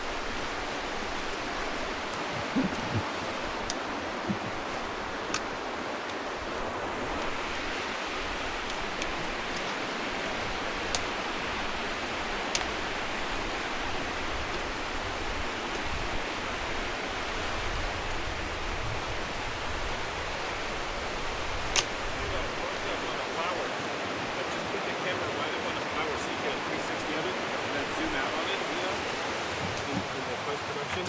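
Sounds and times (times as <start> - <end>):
mountain creek rushing: 0.0 - 31.0.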